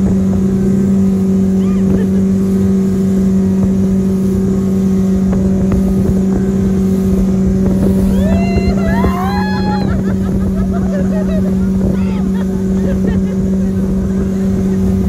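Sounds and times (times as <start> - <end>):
rush of wind and water: 0.0 - 15.0
speedboat engine drone: 0.0 - 15.0.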